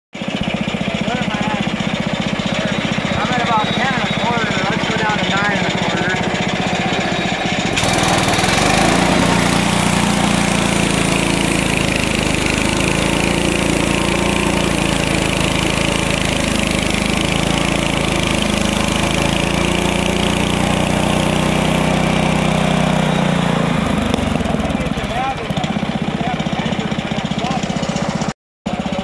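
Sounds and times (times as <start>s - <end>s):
small engine running under load: 0.2s - 29.0s.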